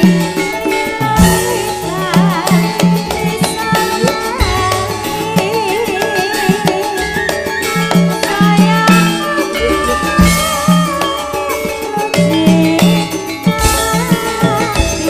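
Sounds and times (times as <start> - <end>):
drums: 0.0 - 15.0
woman singing with vibrato: 0.0 - 15.0.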